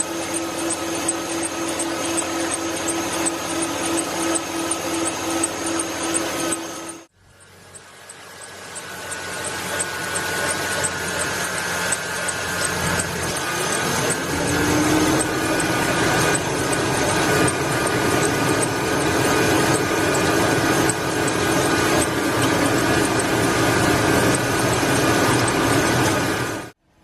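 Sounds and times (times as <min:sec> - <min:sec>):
truck engine idling: 0:00.0 - 0:26.7.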